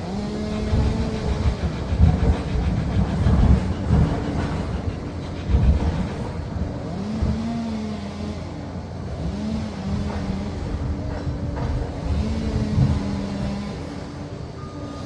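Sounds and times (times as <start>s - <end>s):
dozer diesel engine under load: 0.0s - 15.0s.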